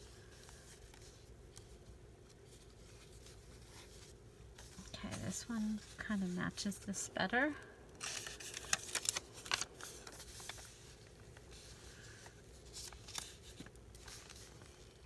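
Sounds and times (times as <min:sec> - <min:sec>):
paper rustling: 0:00.0 - 0:06.8, 0:08.0 - 0:15.0.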